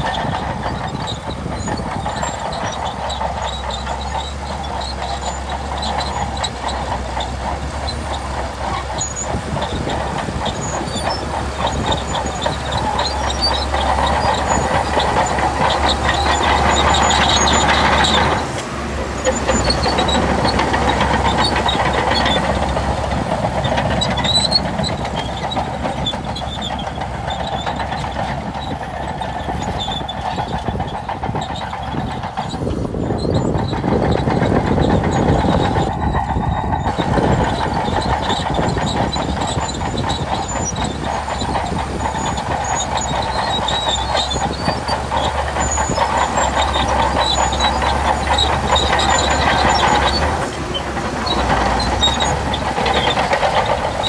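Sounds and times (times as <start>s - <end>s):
bulldozer diesel engine running: 0.0s - 54.0s
steel tracks clattering and squeaking: 0.0s - 54.0s.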